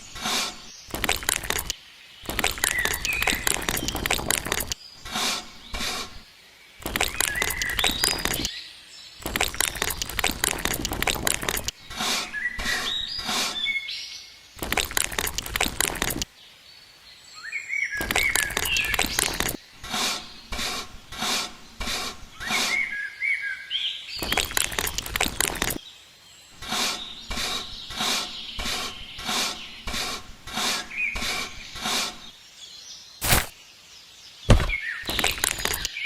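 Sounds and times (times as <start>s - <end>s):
birds chirping: 0.0s - 16.6s, 17.5s - 36.0s.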